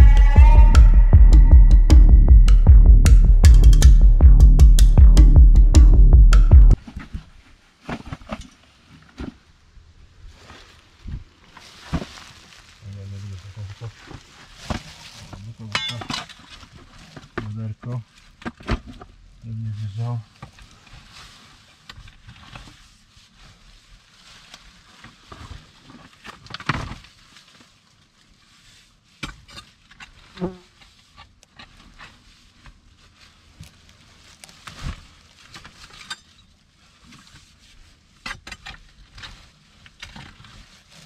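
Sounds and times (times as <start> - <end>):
digging in soil and stones: 6.8 - 23.1, 24.0 - 41.0.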